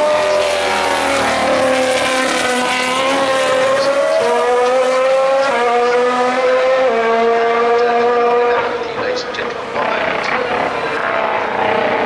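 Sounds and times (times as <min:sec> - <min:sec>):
racing car engine at high revs: 0:00.0 - 0:12.0.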